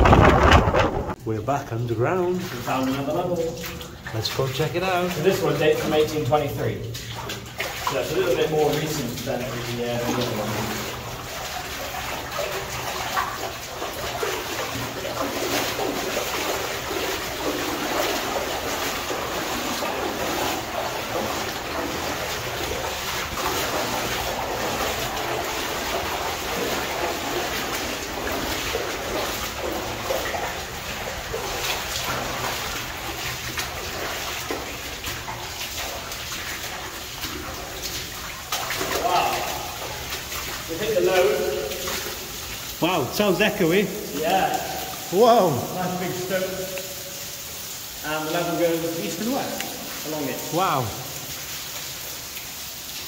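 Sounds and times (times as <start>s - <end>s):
boots splashing through shallow water: 2.0s - 53.0s.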